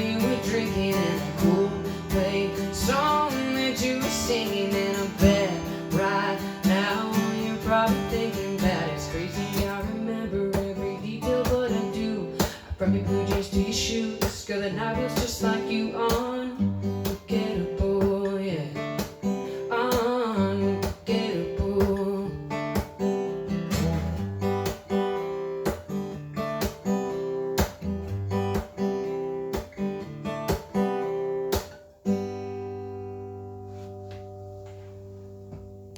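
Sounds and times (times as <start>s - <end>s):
acoustic guitar strumming chords: 0.0s - 35.9s.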